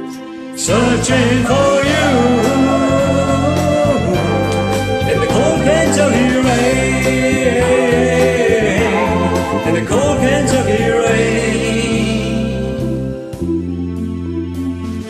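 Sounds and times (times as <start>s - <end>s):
man singing wordless notes: 0.0s - 13.0s
karaoke band track: 0.0s - 15.0s
backing vocals with vibrato: 0.6s - 12.8s.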